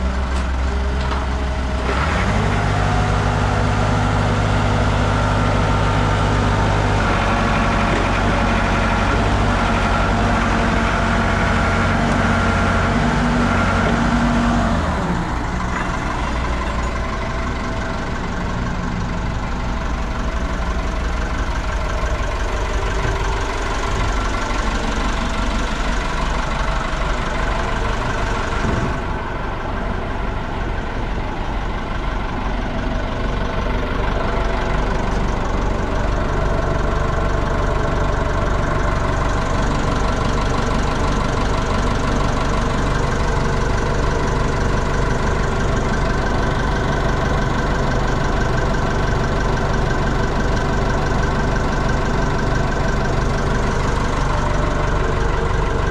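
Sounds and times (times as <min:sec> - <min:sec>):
forklift engine running: 0:00.0 - 0:55.9.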